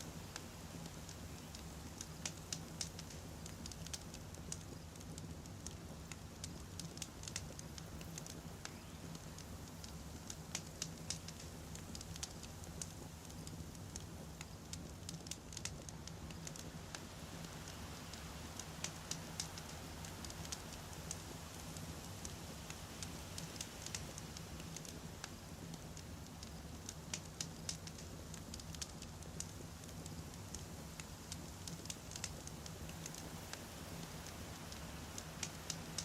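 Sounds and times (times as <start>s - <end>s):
logs crackling and popping: 0.0s - 36.0s
low rumble of flame: 0.0s - 36.0s.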